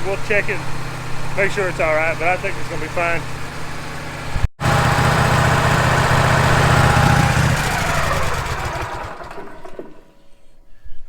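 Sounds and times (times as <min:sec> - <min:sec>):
sawmill engine running: 0:00.0 - 0:10.5.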